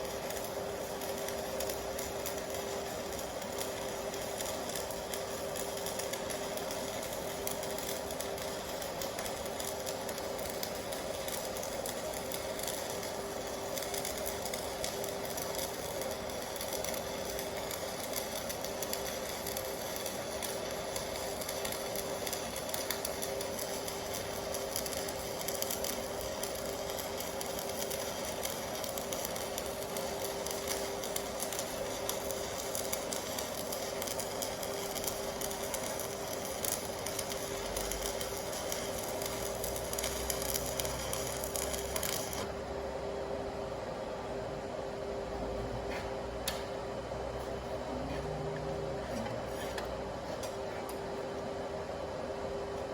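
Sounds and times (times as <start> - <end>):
welding arc crackling: 0.0 - 42.6
welder hum: 0.0 - 52.9.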